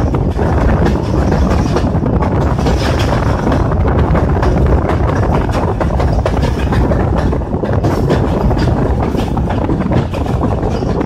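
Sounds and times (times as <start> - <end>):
train wheels rumbling on rail: 0.0 - 11.0
wheels clicking and clattering: 0.0 - 11.0.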